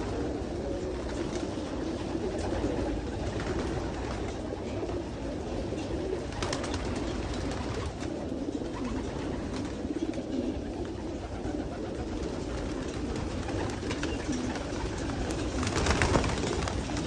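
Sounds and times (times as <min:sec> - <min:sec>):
pigeons cooing: 0:00.0 - 0:17.0
wings flapping: 0:00.0 - 0:17.0.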